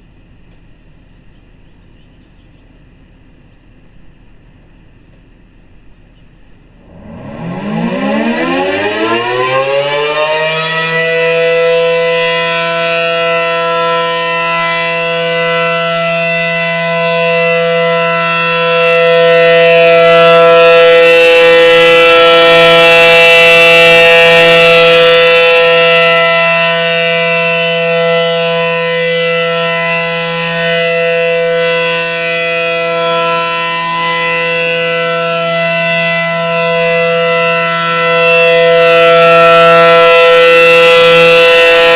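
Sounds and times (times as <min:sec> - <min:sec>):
warning siren wailing: 0:06.6 - 0:41.9.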